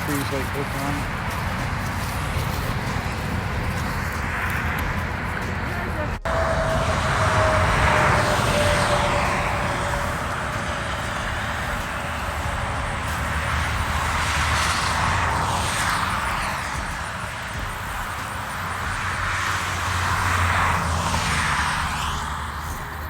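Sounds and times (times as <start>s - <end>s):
steady whine: 0.0s - 23.0s
vehicles passing on highway: 0.0s - 23.0s.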